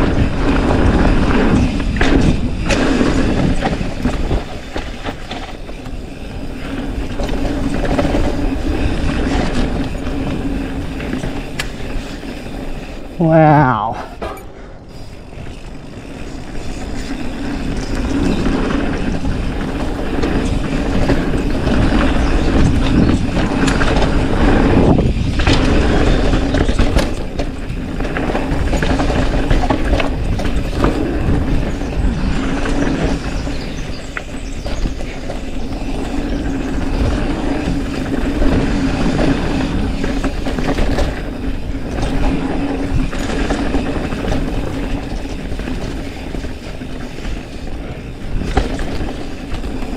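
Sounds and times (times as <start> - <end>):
wind buffeting microphone: 0.0 - 13.2, 14.1 - 49.9
bike rattling over bumps: 0.0 - 49.9
bike tyres rolling on dirt: 0.0 - 49.9.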